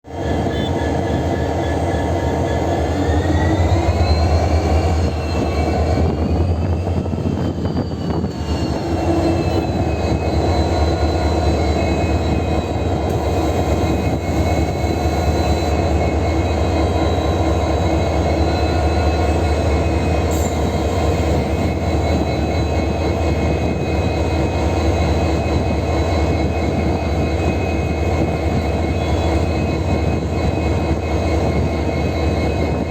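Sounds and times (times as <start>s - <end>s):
diesel locomotive humming: 0.1s - 32.9s
locomotive whine: 0.1s - 32.9s.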